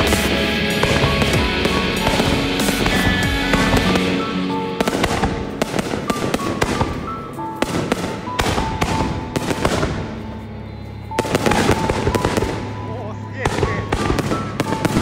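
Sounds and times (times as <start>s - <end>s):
firework shells bursting: 0.0s - 10.4s, 11.2s - 15.0s
firework crackling: 0.0s - 15.0s.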